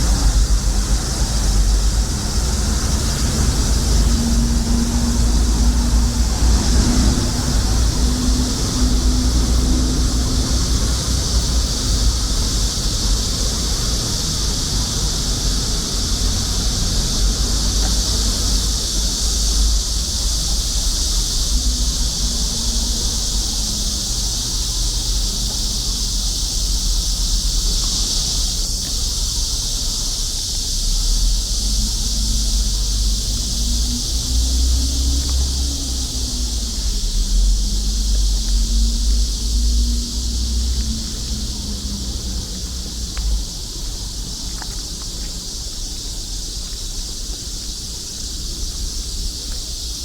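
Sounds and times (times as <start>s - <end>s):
cicadas buzzing: 0.0s - 50.0s
steady low rumble: 0.0s - 50.0s.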